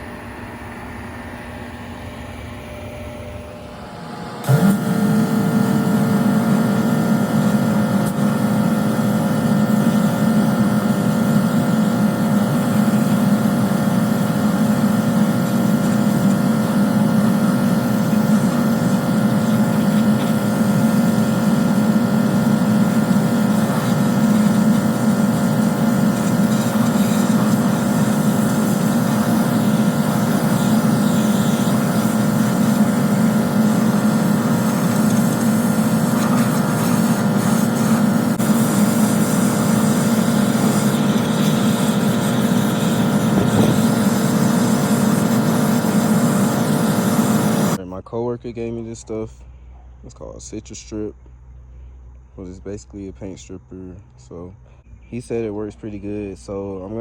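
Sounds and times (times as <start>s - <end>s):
motor-driven machine running: 0.0s - 47.8s.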